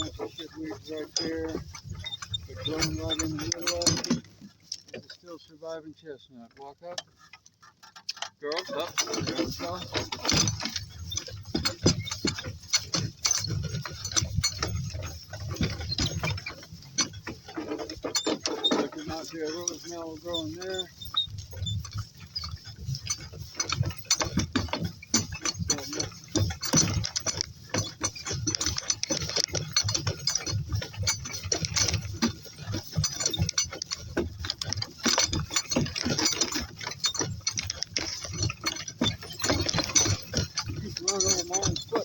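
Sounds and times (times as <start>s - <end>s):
cart rattling over rough ground: 0.0s - 42.0s.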